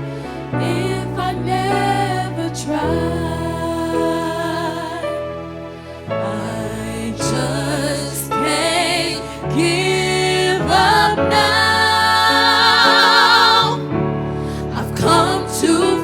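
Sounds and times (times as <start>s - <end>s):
gospel voices singing: 0.0s - 16.0s.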